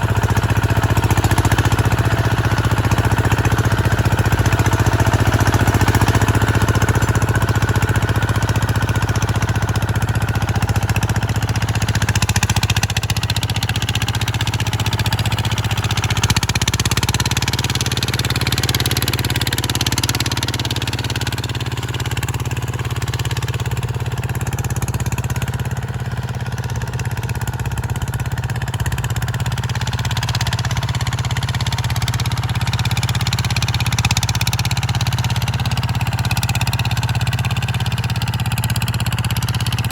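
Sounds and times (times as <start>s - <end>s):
engine running with pulsing beat: 0.0s - 39.9s.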